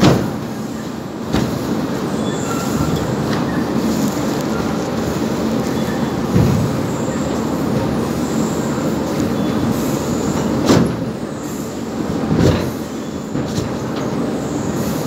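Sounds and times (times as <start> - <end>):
conveyor machinery noise: 0.0 - 15.0.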